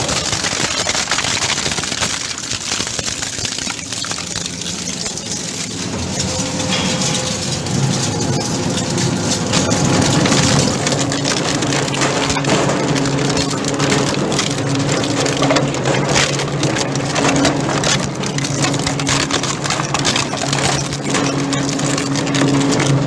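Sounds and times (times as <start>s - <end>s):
grinding machine crackling clatter: 0.0s - 23.0s
steady motor hum: 0.0s - 23.0s.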